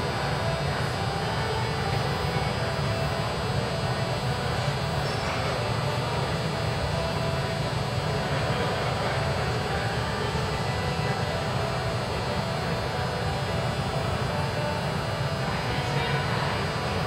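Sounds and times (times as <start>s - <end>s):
indoor arena background rumble: 0.0s - 17.0s.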